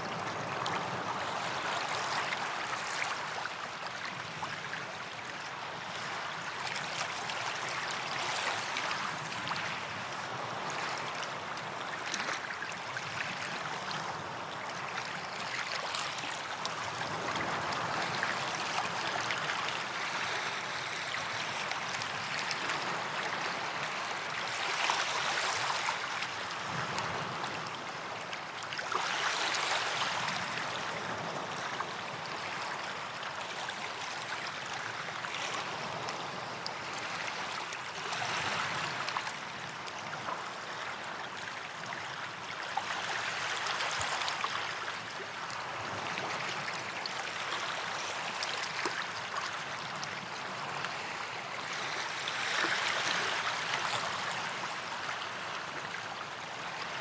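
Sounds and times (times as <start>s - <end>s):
sea waves washing on beach: 0.0s - 57.0s.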